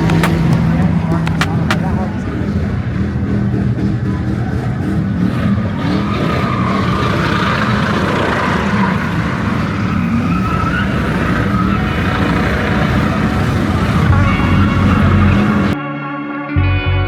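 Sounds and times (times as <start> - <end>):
car engine at high revs: 0.0 - 15.8
tires squealing: 0.0 - 15.8.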